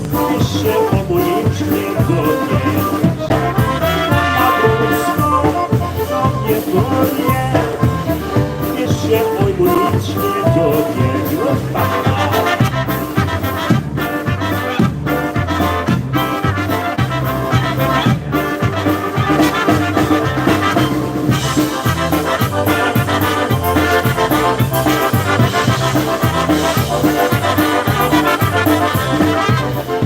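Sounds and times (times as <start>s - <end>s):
live polka band playing: 0.0s - 30.0s
steady bass beat: 0.0s - 30.0s.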